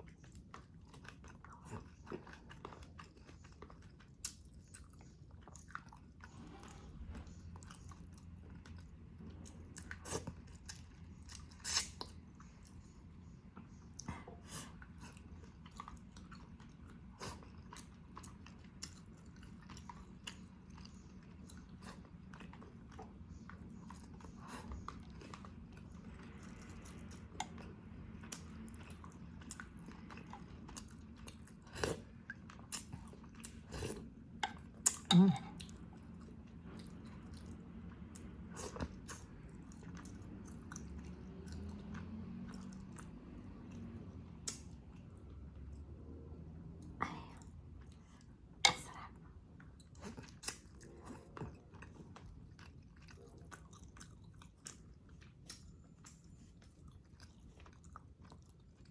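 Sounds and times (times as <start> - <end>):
chewing and mouth clicks: 0.0 - 58.9
faint steady hum: 0.0 - 58.9.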